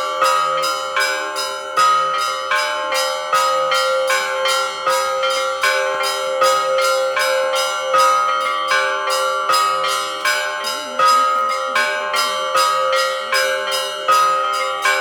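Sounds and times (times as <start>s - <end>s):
large bell humming: 0.0s - 15.0s
small bells ringing rapidly: 0.0s - 15.0s.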